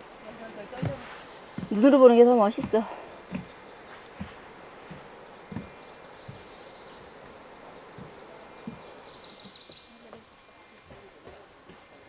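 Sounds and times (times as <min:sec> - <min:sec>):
low thumps: 0:00.0 - 0:09.9
stream rushing over rocks: 0:00.0 - 0:11.0
bird chirping rapidly: 0:00.6 - 0:10.8.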